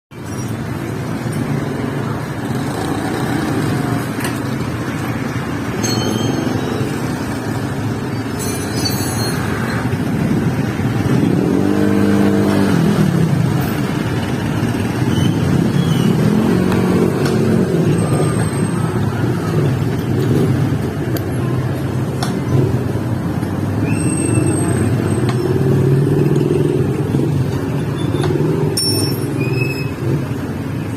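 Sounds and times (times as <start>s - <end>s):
vehicle engines running: 0.1s - 30.9s.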